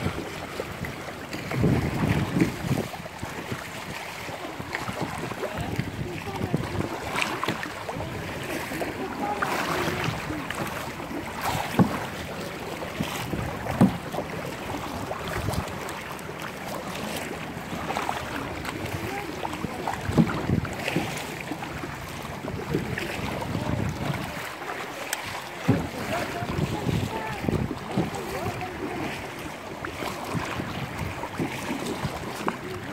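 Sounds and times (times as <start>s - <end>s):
wind buffeting microphone: 0.0s - 15.9s, 17.6s - 24.6s, 25.6s - 32.9s
paddles splashing in water: 0.0s - 32.9s.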